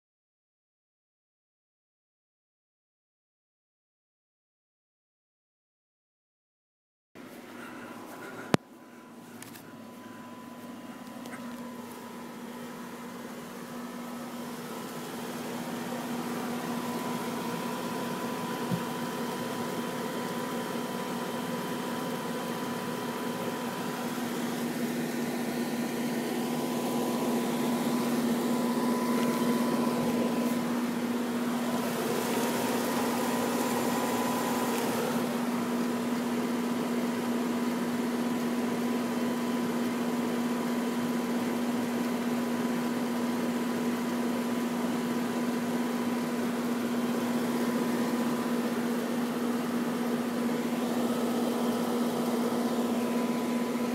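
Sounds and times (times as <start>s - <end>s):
air conditioner unit humming: 7.2s - 53.9s.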